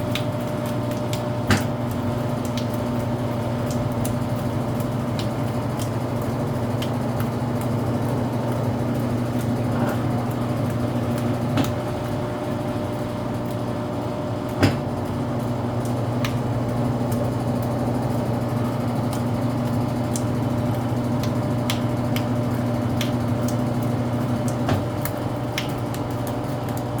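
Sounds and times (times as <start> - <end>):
washing machine spinning: 0.0 - 27.0.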